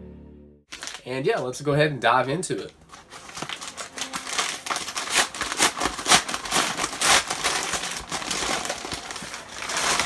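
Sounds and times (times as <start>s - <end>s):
paper envelope crinkling: 0.7s - 1.5s, 2.5s - 10.0s.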